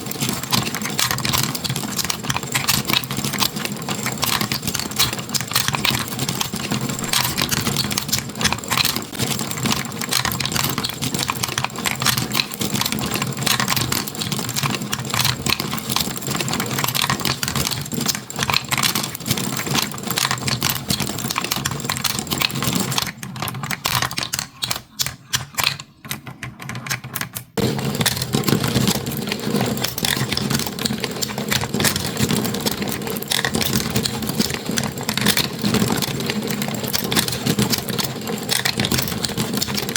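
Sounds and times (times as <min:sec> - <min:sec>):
marbles clattering down marble run: 0:00.0 - 0:39.9.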